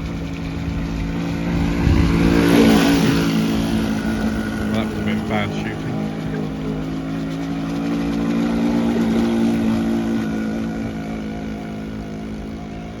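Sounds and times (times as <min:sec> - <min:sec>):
model boat engine running: 0:00.0 - 0:13.0.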